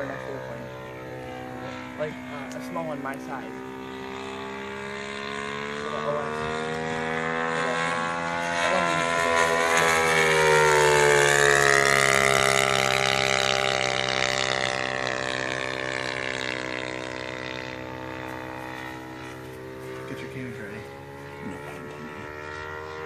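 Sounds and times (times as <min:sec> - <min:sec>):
model plane engine flying past: 0:00.0 - 0:23.0.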